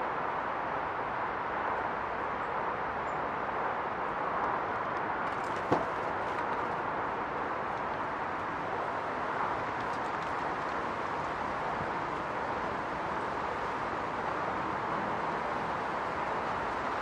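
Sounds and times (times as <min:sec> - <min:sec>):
outdoor background rush: 0:00.0 - 0:17.0.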